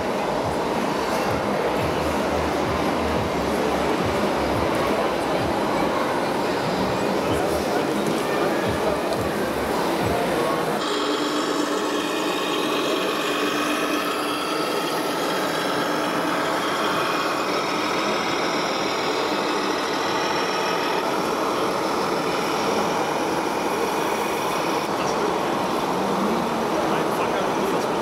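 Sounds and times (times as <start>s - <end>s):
busy hall noise: 0.0s - 28.0s
simulated diesel engine idling: 1.3s - 28.0s.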